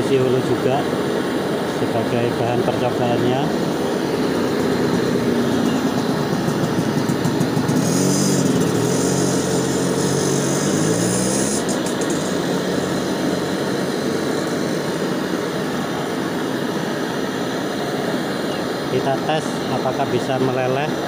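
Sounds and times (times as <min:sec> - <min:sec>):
gas torch hissing: 0:00.6 - 0:21.0
small engine running: 0:00.9 - 0:21.0.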